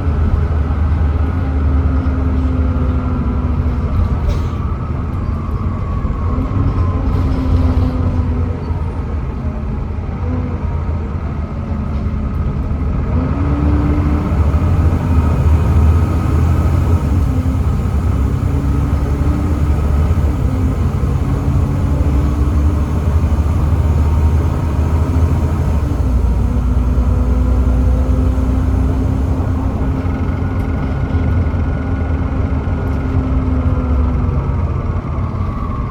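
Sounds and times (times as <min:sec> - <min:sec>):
diesel bus engine rumbling: 0:00.0 - 0:35.9.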